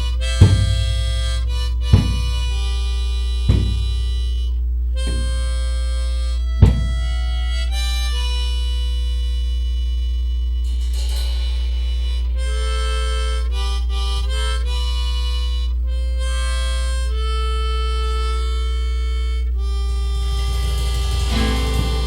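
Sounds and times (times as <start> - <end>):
harmonica melody: 0.0 - 22.0
steady low drone: 0.0 - 22.0.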